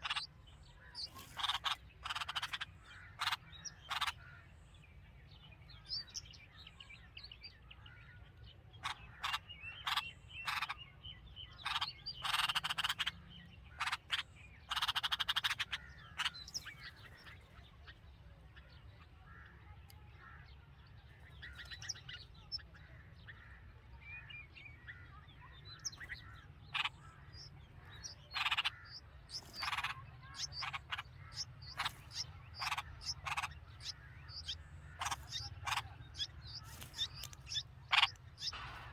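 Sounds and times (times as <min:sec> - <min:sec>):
raspy bird calls: 0:00.0 - 0:04.8, 0:08.8 - 0:18.0, 0:18.6 - 0:38.9
bird chirps: 0:00.0 - 0:38.9.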